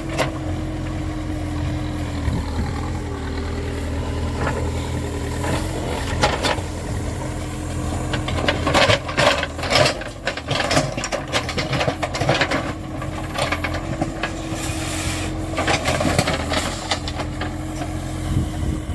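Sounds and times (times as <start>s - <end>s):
scraping and rattling from digging: 0.0s - 18.2s
backhoe diesel engine running: 0.0s - 18.9s.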